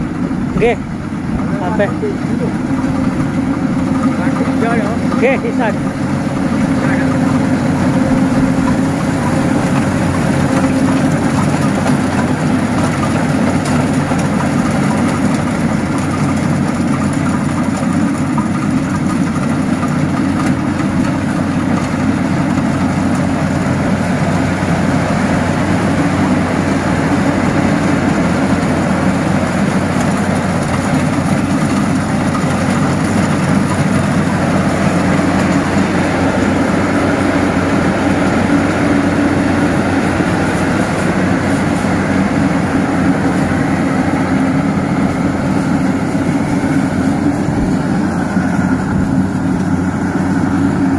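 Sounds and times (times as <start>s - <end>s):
combine harvester engine droning: 0.0s - 50.9s.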